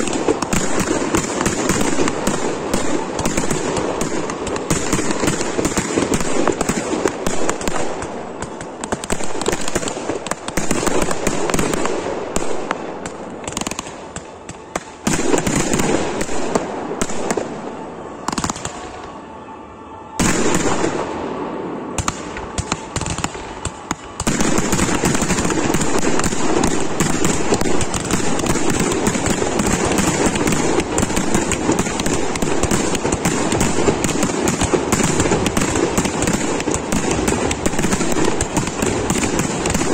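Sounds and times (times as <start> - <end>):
firework bangs and crackle: 0.0 - 19.1, 20.2 - 39.9.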